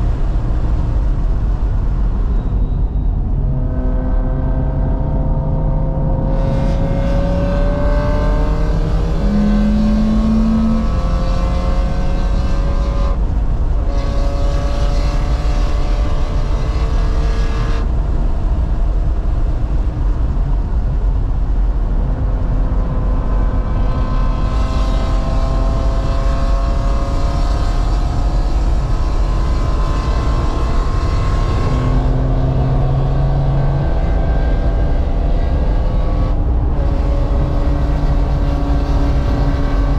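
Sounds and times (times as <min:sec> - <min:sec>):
car engine revving: 0:00.0 - 0:39.9
road noise: 0:00.0 - 0:39.9.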